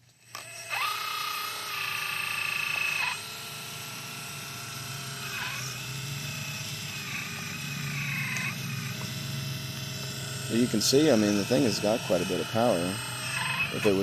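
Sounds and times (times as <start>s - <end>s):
electric hydraulic pump whining: 0.0s - 14.0s.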